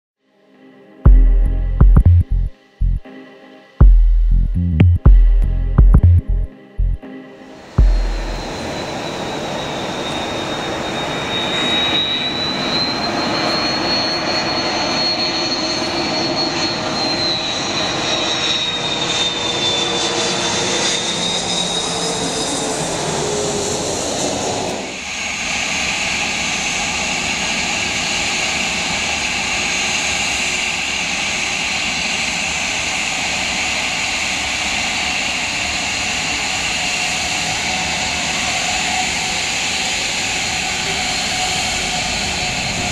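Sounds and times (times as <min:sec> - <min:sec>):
jet engines taxiing: 0:06.6 - 0:42.9
jet engines at high power: 0:07.4 - 0:42.9.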